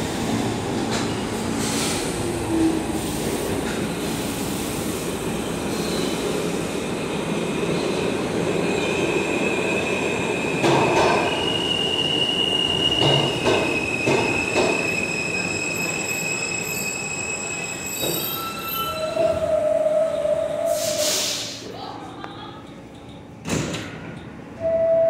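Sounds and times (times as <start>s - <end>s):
subway train braking: 0.0s - 22.0s, 23.4s - 25.0s.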